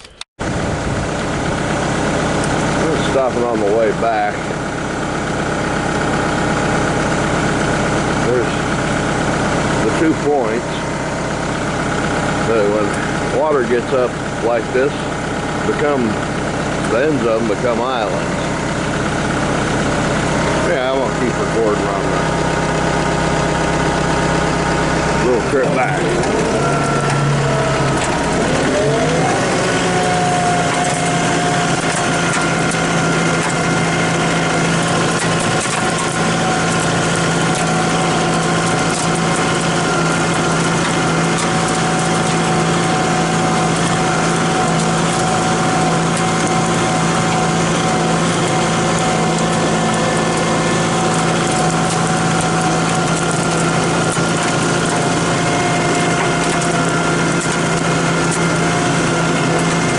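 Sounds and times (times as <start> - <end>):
small vehicle engine driving: 0.0 - 59.9.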